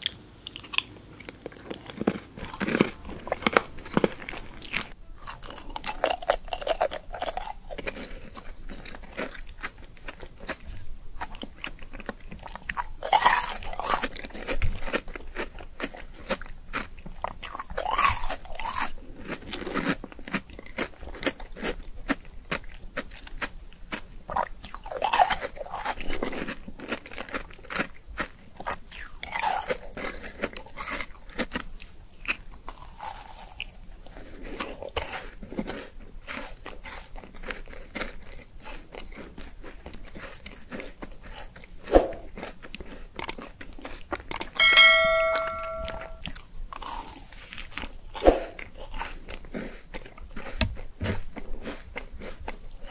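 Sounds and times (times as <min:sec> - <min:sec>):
crunchy bites and wet chewing: 0:00.0 - 0:44.6, 0:46.3 - 0:52.9.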